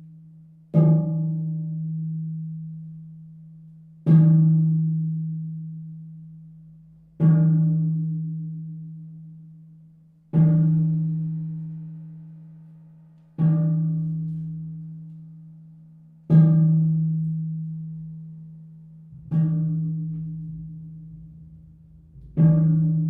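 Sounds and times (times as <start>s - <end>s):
low resonant percussion strikes: 4.0s - 23.0s.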